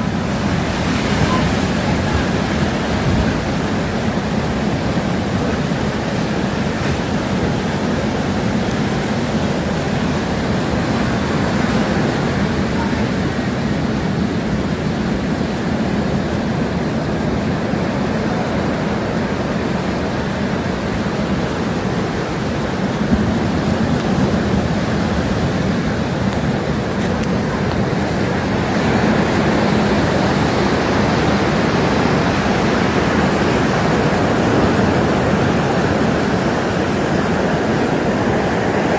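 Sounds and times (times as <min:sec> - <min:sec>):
hurricane wind and rain: 0:00.0 - 0:38.9.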